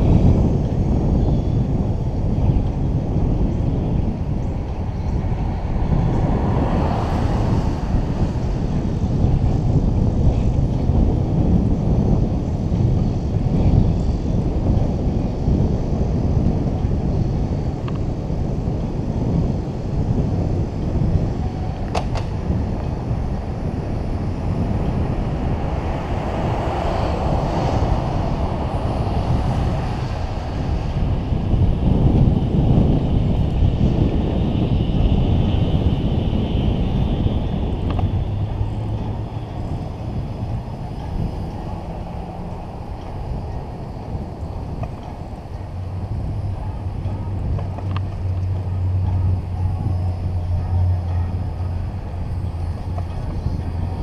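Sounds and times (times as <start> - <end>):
rolling road noise: 0.0 - 54.0
wind rumble on microphone: 0.0 - 54.0.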